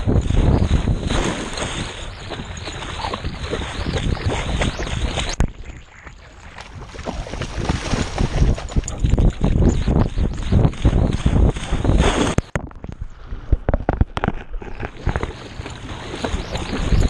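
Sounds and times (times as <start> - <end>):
water splashing around swimming dog: 0.0 - 12.5, 14.3 - 17.0.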